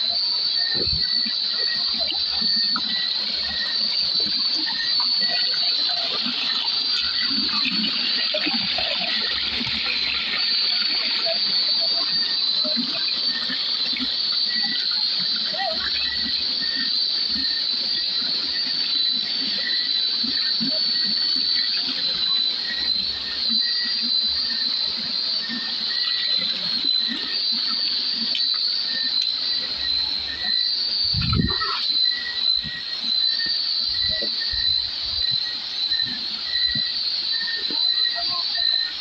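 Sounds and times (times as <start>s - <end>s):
insect chirping: 0.0s - 39.0s
insects trilling: 0.0s - 39.0s.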